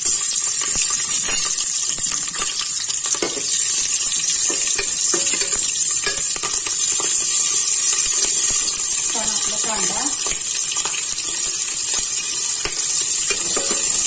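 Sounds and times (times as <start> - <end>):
chillies sizzling in hot oil: 0.0 - 14.0
spatula scraping a pot: 0.1 - 14.0.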